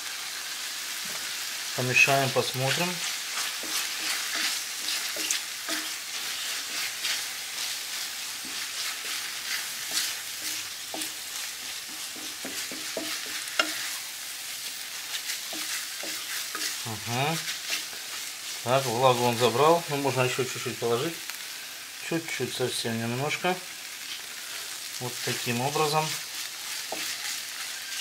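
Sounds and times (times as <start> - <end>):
food sizzling in a frying pan: 0.0 - 28.0
wooden spatula scraping a pan: 1.0 - 20.7, 23.2 - 28.0.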